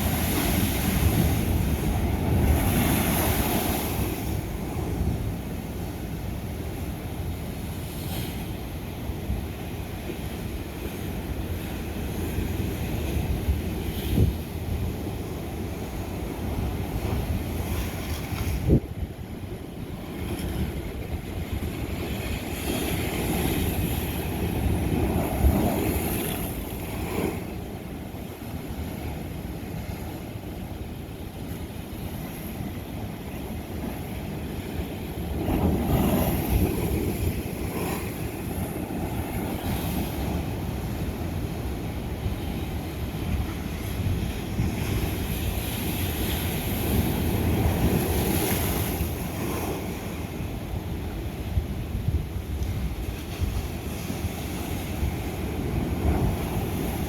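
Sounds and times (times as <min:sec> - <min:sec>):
ocean waves breaking on rock: 0:00.0 - 0:57.0
wind rumble on microphone: 0:00.0 - 0:57.0.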